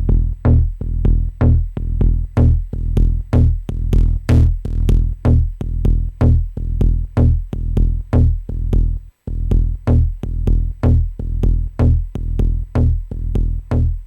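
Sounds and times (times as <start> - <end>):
deep kick drum pulse: 0.0 - 14.0.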